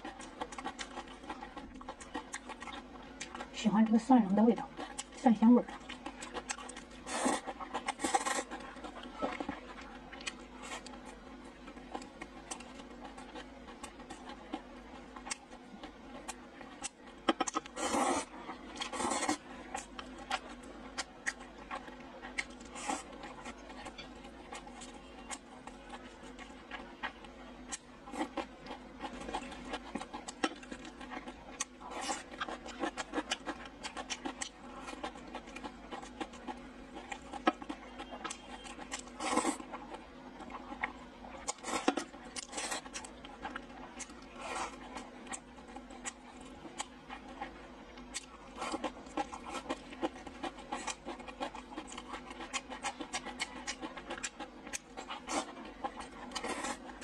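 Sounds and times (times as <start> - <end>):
wet chewing and lip-smacking: 0.0 - 3.6, 4.6 - 57.0.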